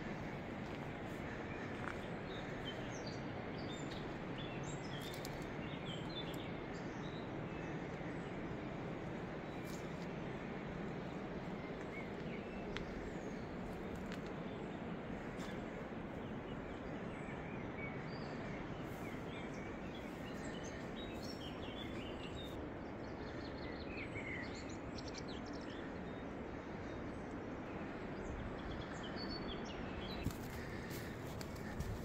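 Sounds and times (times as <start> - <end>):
small birds chirping: 0.0 - 26.1, 27.3 - 32.0.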